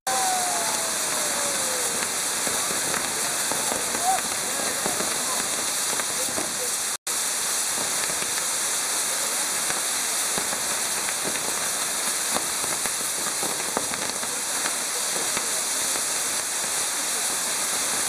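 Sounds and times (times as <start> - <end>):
firework crackles and pops: 0.1 - 18.0
firework fire jets hissing: 0.1 - 18.0.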